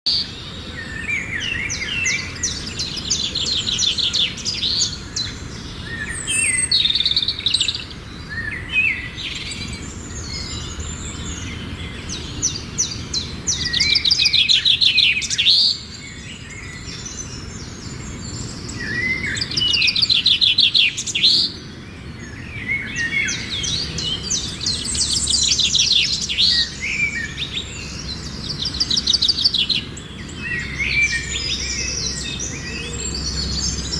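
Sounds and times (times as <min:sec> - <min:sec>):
songbirds singing trilled phrases: 0:00.1 - 0:33.9.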